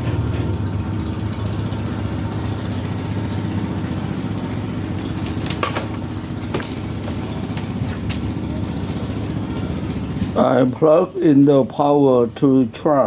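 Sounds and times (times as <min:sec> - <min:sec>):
machine rumbling: 0:00.0 - 0:12.4.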